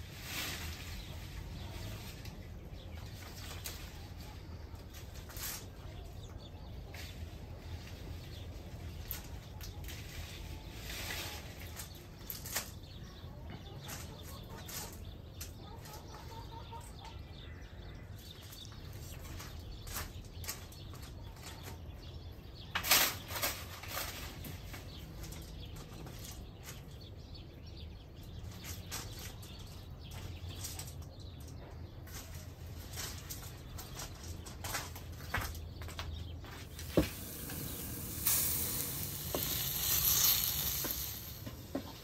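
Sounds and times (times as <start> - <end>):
tree leaves and branches rustling: 0.0 - 16.1, 17.4 - 42.0.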